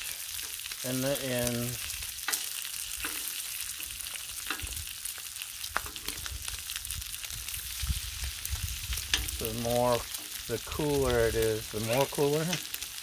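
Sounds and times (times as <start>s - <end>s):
bacon sizzling on griddle: 0.0s - 13.0s
fat crackling and popping: 0.0s - 13.0s.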